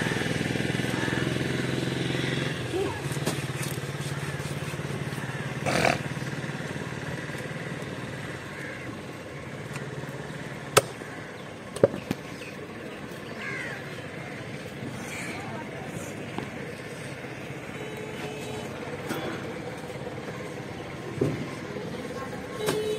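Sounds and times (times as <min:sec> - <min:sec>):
steady engine hum: 0:00.0 - 0:22.9.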